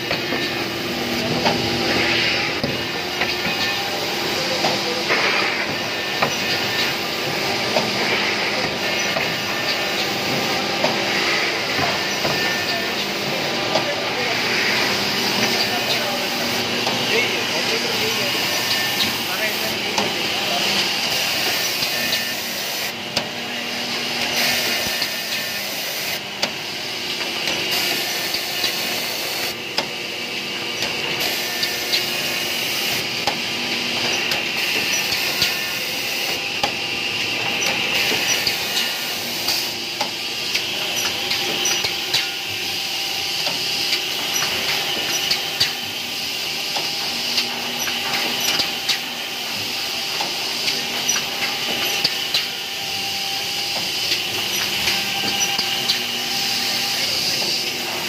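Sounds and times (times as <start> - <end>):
machine motor whine and hiss: 0.0 - 58.0.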